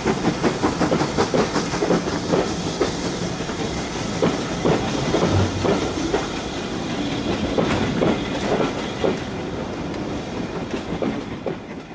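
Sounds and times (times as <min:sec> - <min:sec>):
train rumble: 0:00.0 - 0:11.9
train wheels clicking over rail joints: 0:00.0 - 0:11.9.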